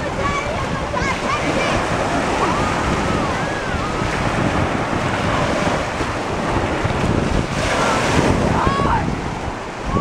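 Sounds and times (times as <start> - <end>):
ocean surf washing onto beach: 0.0 - 10.0
wind buffeting microphone: 0.0 - 10.0.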